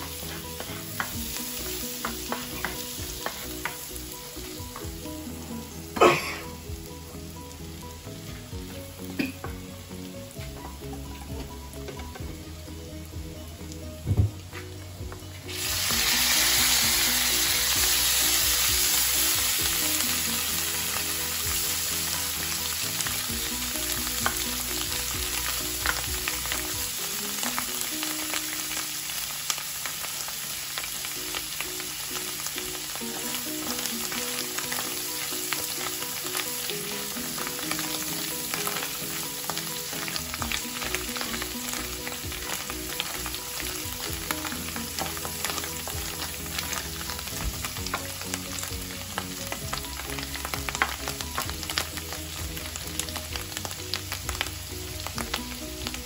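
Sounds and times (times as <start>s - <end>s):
mushrooms sizzling in frying pan: 0.0s - 56.0s.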